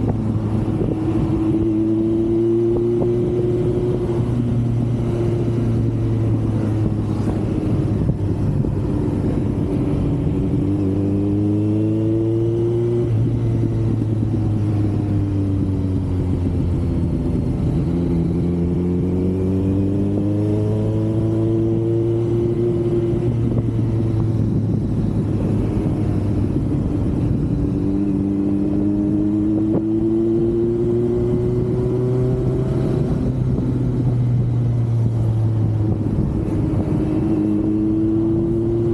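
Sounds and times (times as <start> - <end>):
motorcycle engine revving: 0.0 - 38.9
wind rushing over microphone: 0.0 - 38.9.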